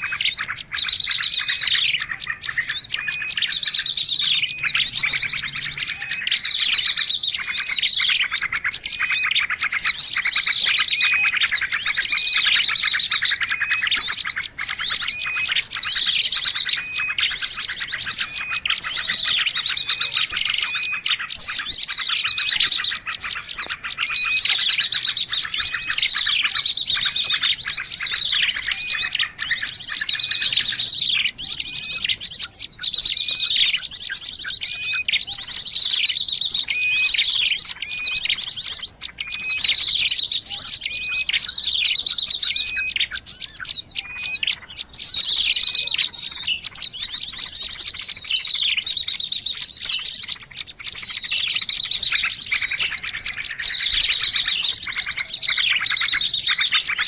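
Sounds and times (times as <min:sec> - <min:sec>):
small songbirds chirping and trilling: 0:00.0 - 0:57.0.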